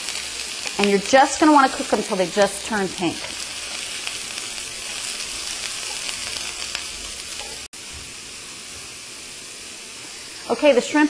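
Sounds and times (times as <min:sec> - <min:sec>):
shrimp frying in hot oil: 0:00.0 - 0:11.0.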